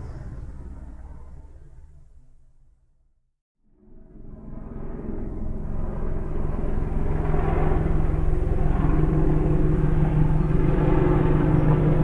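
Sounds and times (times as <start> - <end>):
helicopter engine and rotor: 0.0 - 2.2, 3.7 - 12.0.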